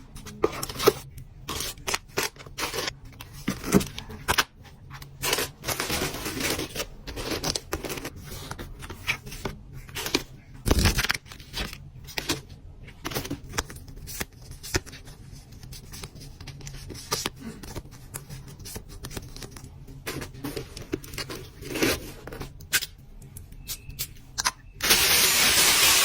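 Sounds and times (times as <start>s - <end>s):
packaging rustling: 0.1s - 22.6s.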